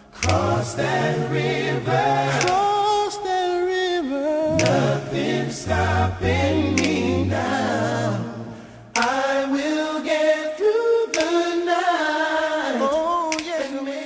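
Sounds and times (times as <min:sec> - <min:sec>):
song with sung vocals: 0:00.0 - 0:14.0.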